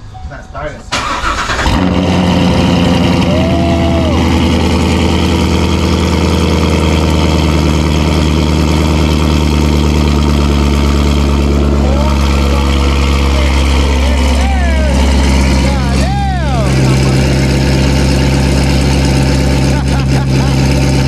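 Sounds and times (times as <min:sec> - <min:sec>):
car engine idling loudly: 0:01.0 - 0:21.0.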